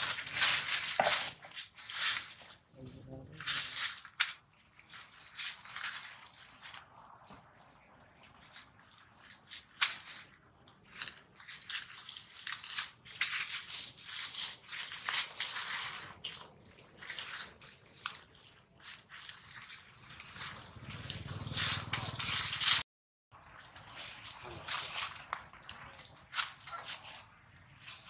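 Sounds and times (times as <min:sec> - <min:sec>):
dry leaves crackling and rustling: 0:00.0 - 0:07.4, 0:08.2 - 0:22.8, 0:23.4 - 0:28.0.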